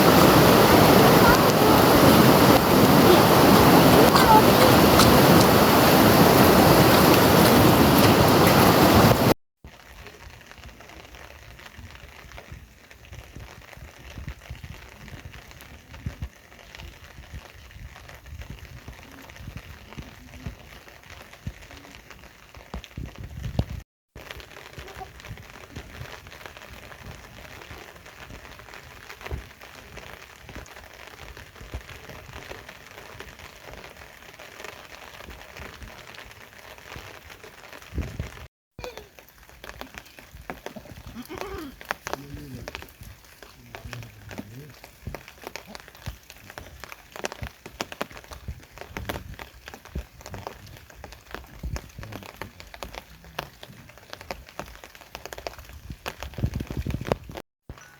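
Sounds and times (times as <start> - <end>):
light rain hissing: 0.0 - 57.9.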